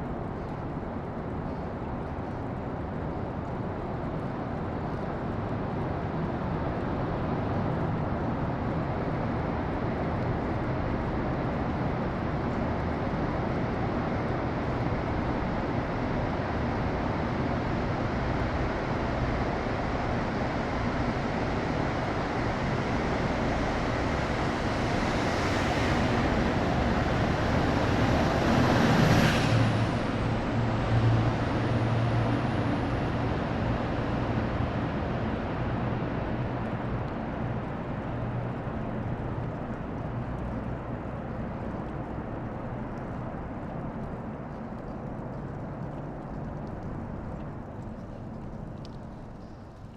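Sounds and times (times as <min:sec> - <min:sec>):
road traffic rumble: 0:09.7 - 0:49.9.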